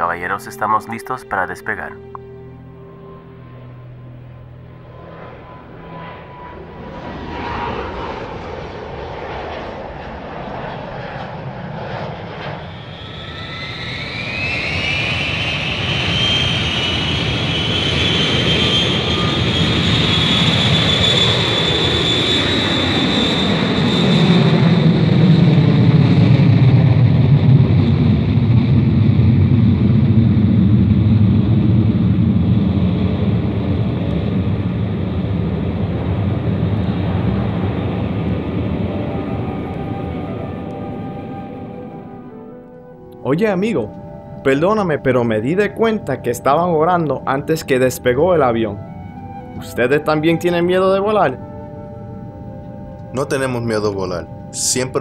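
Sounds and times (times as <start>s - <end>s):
deep jet rumble: 0.0s - 55.0s
jet engines whining: 0.0s - 55.0s.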